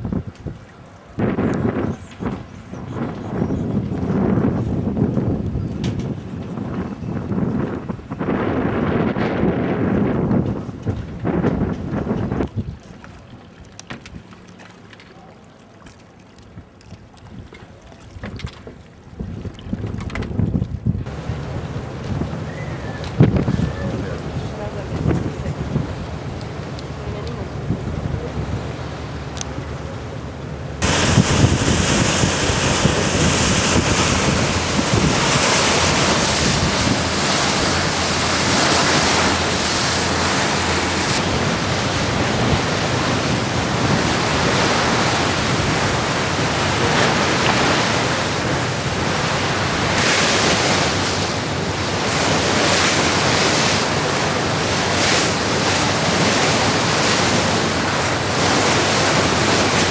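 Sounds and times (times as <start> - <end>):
wind rushing over microphone: 0.0 - 14.3, 17.3 - 59.9
water churning in wake: 0.0 - 59.9.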